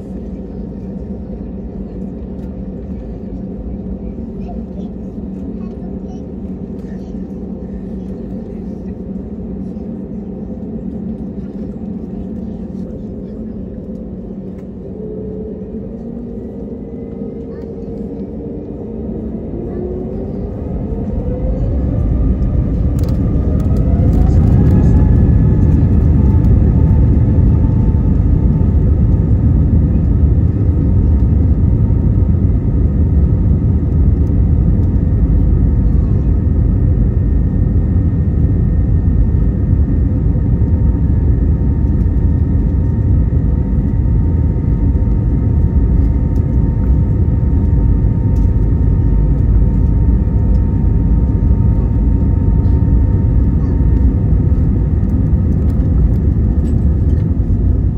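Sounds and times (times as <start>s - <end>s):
heavy low rumble: 0.0s - 57.9s
jet engine whine and drone: 0.0s - 57.9s.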